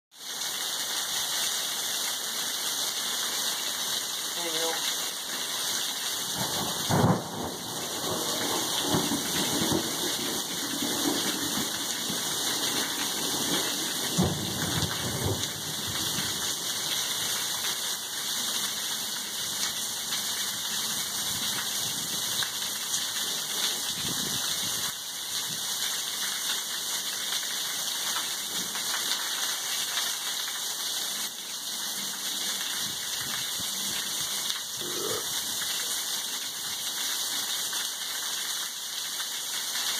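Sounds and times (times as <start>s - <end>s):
heavy rain and hail falling: 0.1s - 39.9s.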